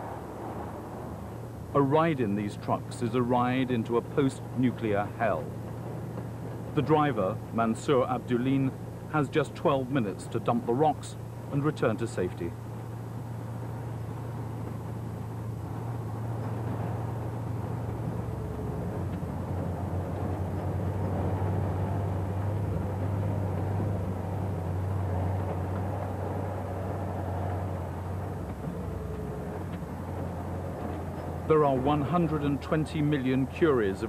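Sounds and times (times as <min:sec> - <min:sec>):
rumbling rattle in cab: 0:00.0 - 0:34.0
truck engine running: 0:00.0 - 0:34.0.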